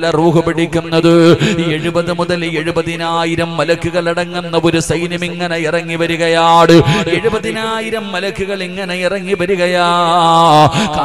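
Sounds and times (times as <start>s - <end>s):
man preaching into a microphone: 0.0s - 11.0s.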